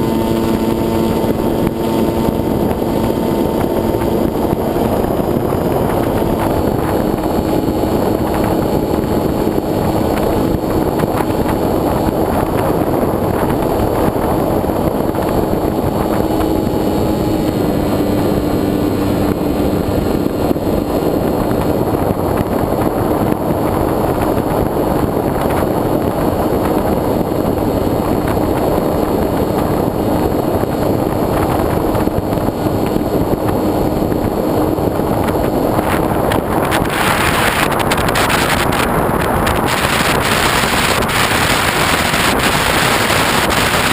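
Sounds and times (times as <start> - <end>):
model plane motor and propeller hum: 0.0 - 43.9
wind rushing: 0.0 - 43.9.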